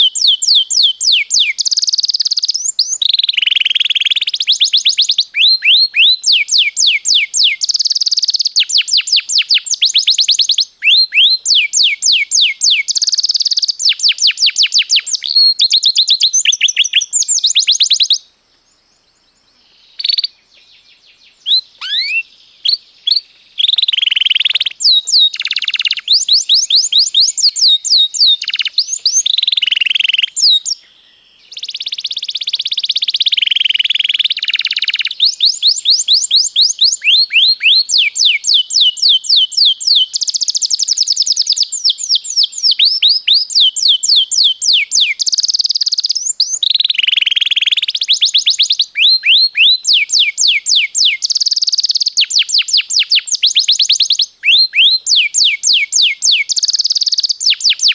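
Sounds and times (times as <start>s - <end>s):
canary singing trills: 0.0s - 18.2s, 19.6s - 57.9s.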